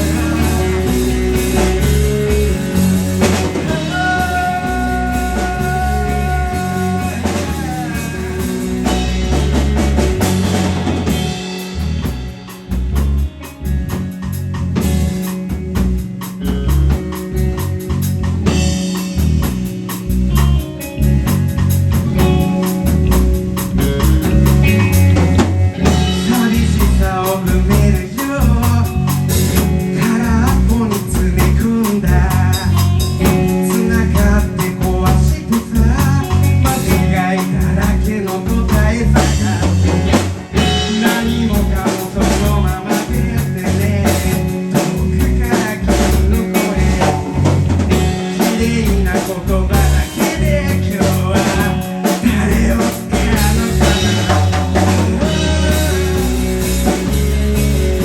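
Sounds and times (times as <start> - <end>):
busy drum kit: 0.0 - 58.0
live rock band playing: 0.0 - 58.0.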